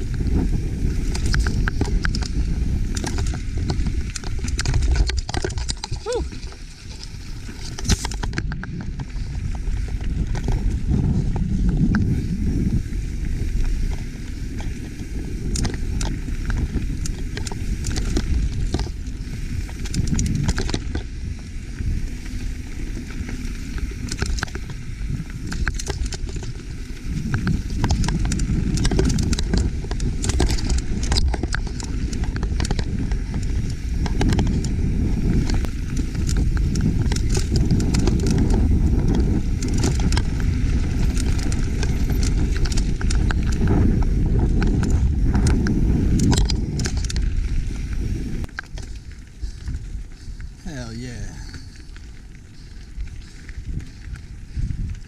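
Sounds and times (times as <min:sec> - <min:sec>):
bike chain rattling: 0:00.0 - 0:55.0
tyres on gravel: 0:00.0 - 0:55.0
wind on microphone: 0:00.0 - 0:55.0.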